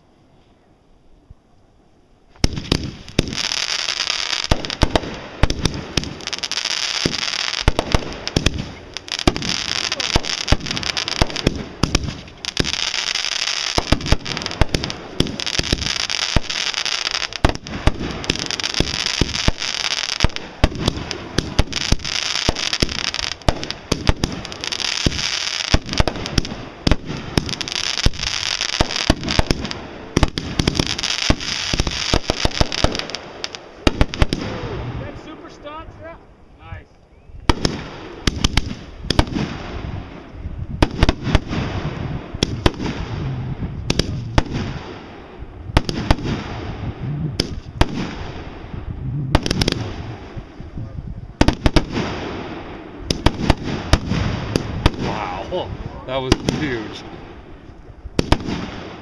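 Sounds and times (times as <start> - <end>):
fireworks crackling and banging: 2.3 - 36.0, 37.5 - 59.0.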